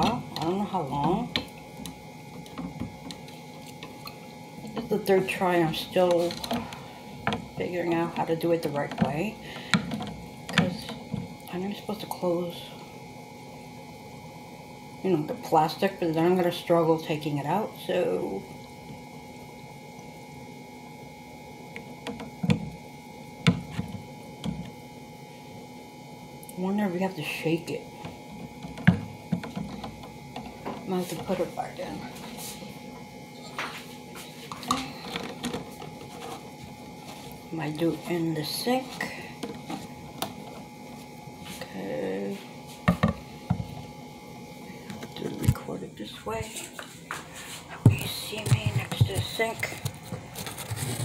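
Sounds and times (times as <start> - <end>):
low room hum: 0.0 - 51.0.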